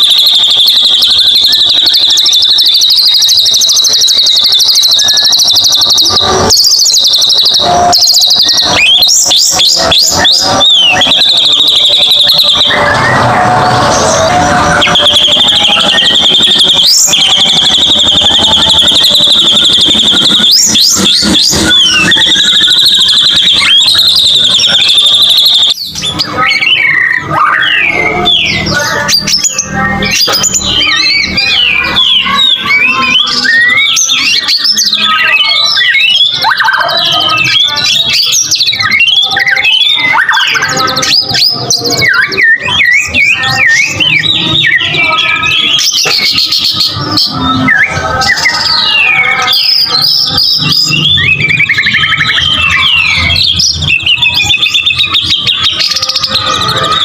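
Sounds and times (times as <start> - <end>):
bird song whistled phrases: 0.0 - 57.0.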